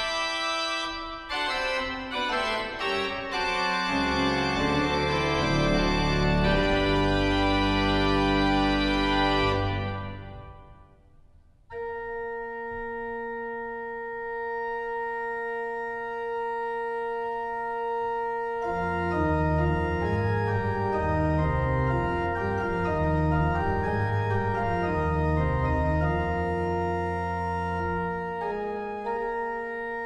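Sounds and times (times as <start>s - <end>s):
church organ playing: 0.0s - 11.0s, 11.7s - 30.0s.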